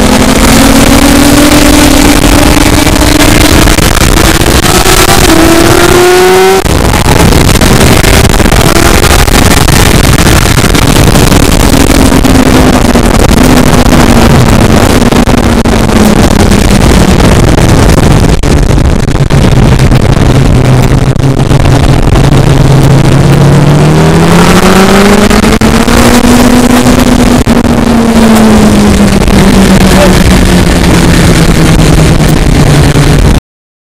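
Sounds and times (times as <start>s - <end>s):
car engine revving: 0.0s - 33.4s
loud even rushing noise: 0.0s - 33.4s.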